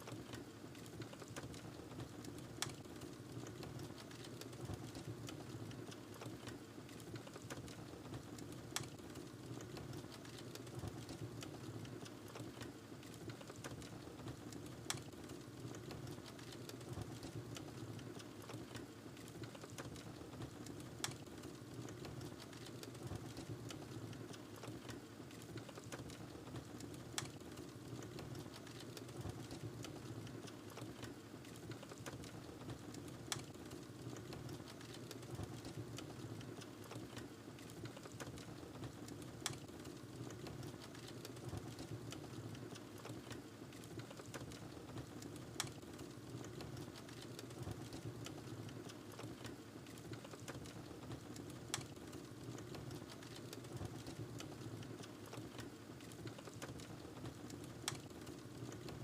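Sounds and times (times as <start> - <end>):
wood fire crackling: 0.1 - 59.0.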